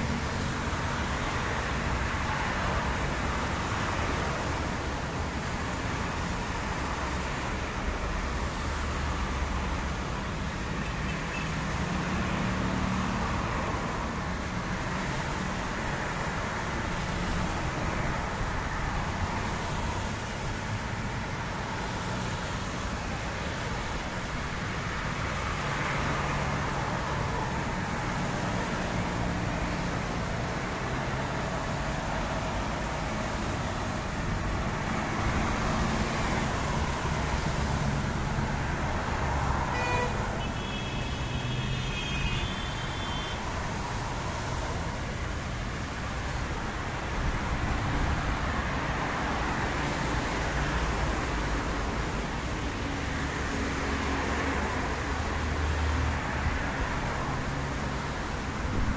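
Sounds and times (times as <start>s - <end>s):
traffic on wet road: 0.0s - 58.9s.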